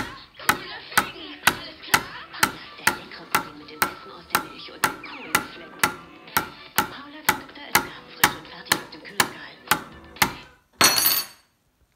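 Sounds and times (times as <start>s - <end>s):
spoon tapping plastic cup: 0.5s - 10.4s.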